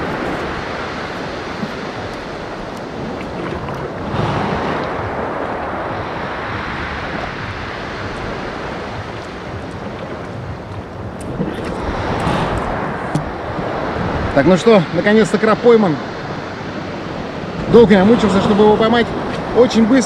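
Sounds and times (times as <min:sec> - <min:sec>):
sea waves washing over rocks: 0:00.0 - 0:20.0
wind buffeting microphone: 0:00.0 - 0:20.0.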